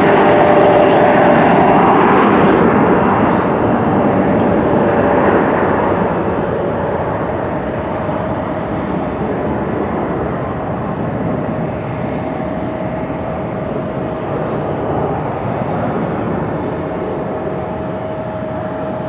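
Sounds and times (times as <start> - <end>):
jet airliner engines rushing: 0.0 - 19.0.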